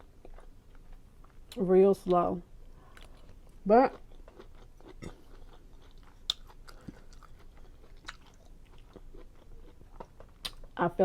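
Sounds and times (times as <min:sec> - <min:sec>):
person chewing food: 0:00.0 - 0:01.6, 0:02.6 - 0:10.8.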